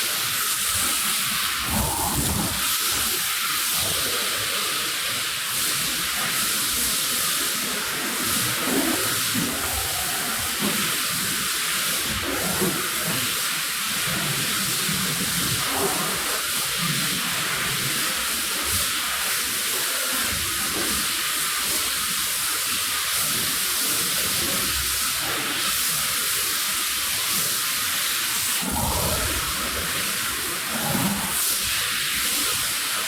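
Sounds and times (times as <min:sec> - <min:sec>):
water spray hissing onto rug: 0:00.0 - 0:33.0.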